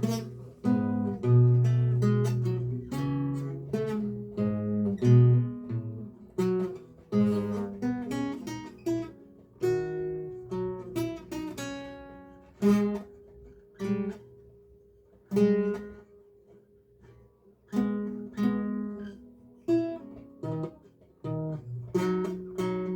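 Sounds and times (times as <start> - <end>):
solo lute playing: 0.0 - 13.3, 17.8 - 22.9.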